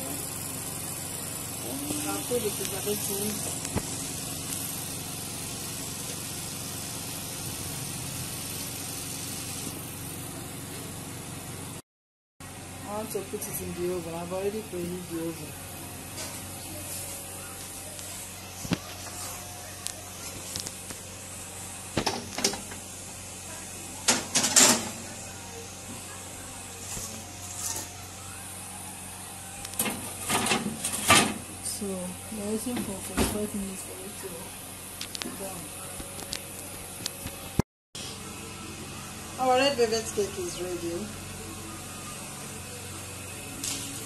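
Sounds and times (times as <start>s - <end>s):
mechanical hum with hiss: 0.0s - 11.8s, 12.4s - 44.0s.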